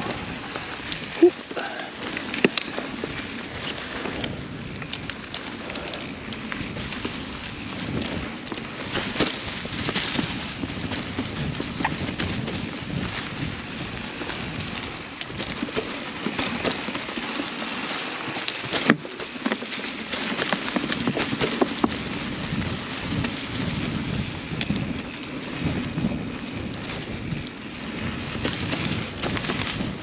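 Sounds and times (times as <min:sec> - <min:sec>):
wind buffeting microphone: 0:00.0 - 0:17.4, 0:20.0 - 0:30.0
bike rattling over bumps: 0:00.0 - 0:30.0
bike tyres crunching on dirt: 0:00.0 - 0:30.0.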